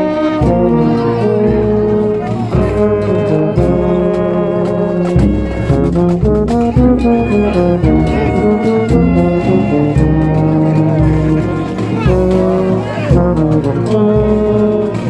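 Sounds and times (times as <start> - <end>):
brass horns playing held notes: 0.0 - 15.0
bass drums beating: 0.3 - 15.0.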